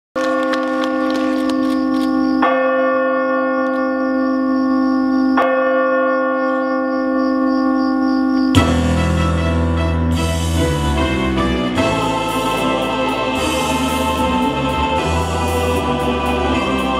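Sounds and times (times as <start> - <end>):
church bell tolling: 0.2 - 16.9.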